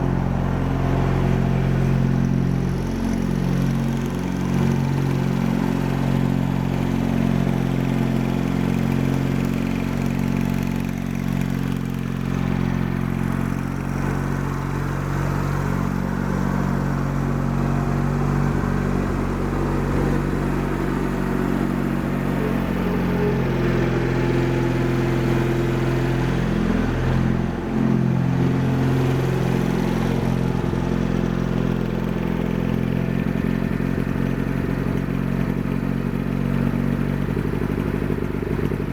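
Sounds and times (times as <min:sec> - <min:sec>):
garden tractor engine idling: 0:00.0 - 0:38.9.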